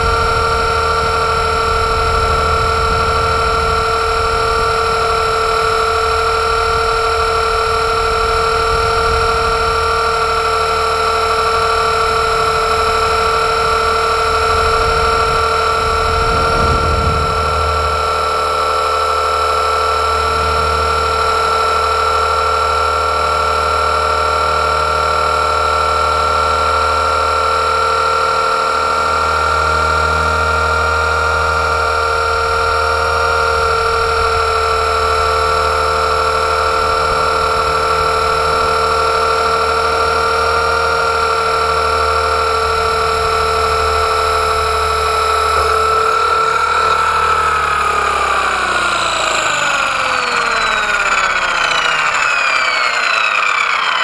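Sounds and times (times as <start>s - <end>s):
rc helicopter motor and rotors: 0.0s - 54.0s.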